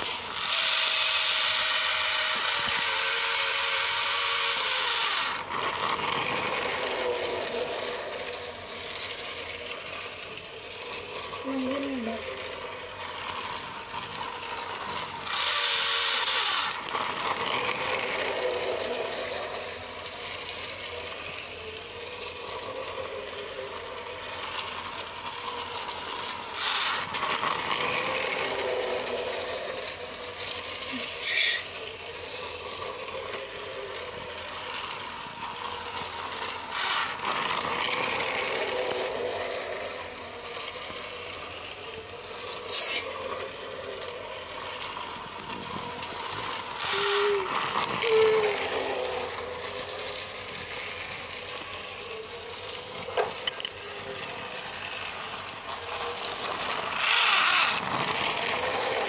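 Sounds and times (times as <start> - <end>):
toy train motor whirring: 0.0 - 59.0.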